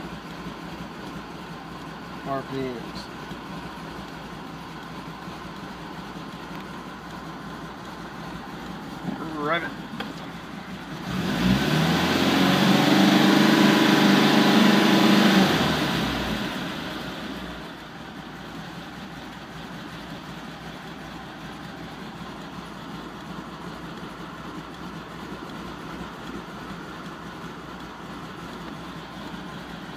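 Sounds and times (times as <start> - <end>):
car engine revving and idling: 0.0 - 29.9.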